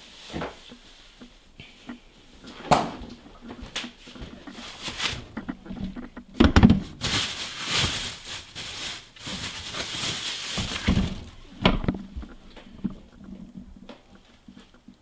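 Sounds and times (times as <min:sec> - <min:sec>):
plastic bag rustling: 0:02.3 - 0:14.8.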